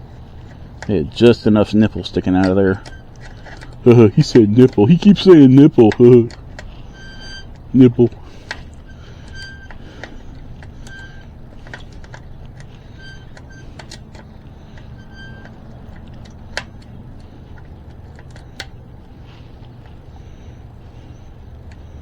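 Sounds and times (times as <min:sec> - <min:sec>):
clicks from handling wheel spokes: 0:00.0 - 0:22.0
low steady hum: 0:00.0 - 0:22.0.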